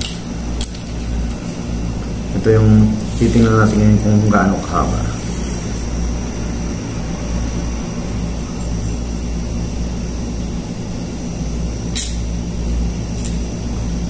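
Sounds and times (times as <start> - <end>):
air conditioner humming: 0.0 - 14.0
faint high whine: 0.0 - 14.0.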